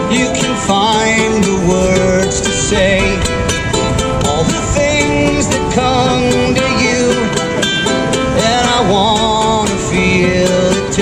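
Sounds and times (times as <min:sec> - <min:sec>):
wavering melody line: 0:00.0 - 0:10.8
plucked string accompaniment: 0:00.0 - 0:11.0.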